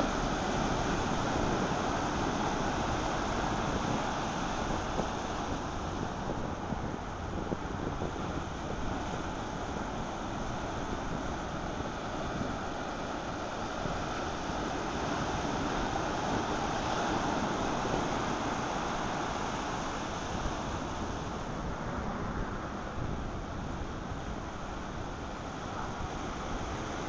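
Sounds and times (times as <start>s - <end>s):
ocean surf washing on shore: 0.0s - 27.0s.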